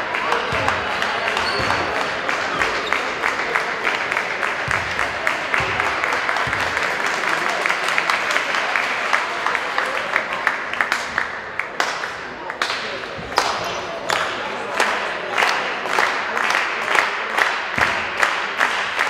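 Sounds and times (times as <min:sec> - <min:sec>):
crowd voices: 0:00.0 - 0:19.0
spectators clapping: 0:00.0 - 0:19.0.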